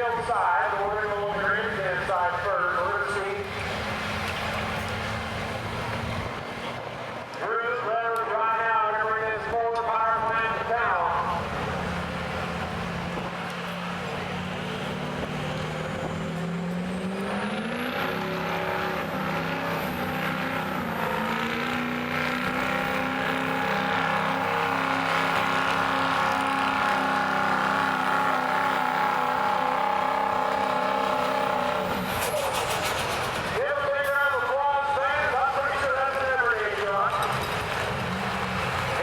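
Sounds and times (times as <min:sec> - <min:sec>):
diesel truck engine revving: 0:00.0 - 0:39.0.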